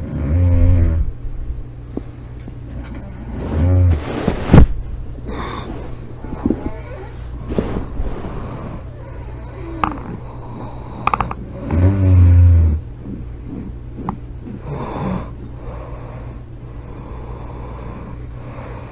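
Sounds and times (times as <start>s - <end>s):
person snoring: 0.0s - 1.1s, 2.8s - 4.1s, 5.3s - 18.9s
steady low hum: 0.0s - 18.9s.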